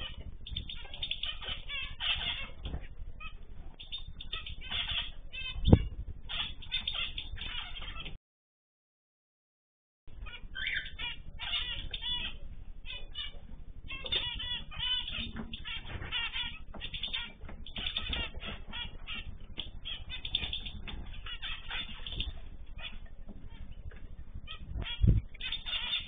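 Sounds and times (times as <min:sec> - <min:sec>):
finches chirping and calling: 0:00.0 - 0:08.2, 0:10.1 - 0:26.0
wings fluttering: 0:00.0 - 0:08.2, 0:10.2 - 0:26.0.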